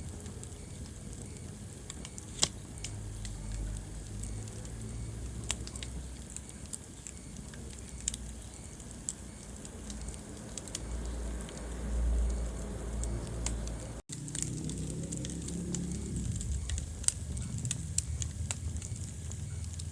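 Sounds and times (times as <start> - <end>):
fire crackling in fireplace: 0.0 - 19.9.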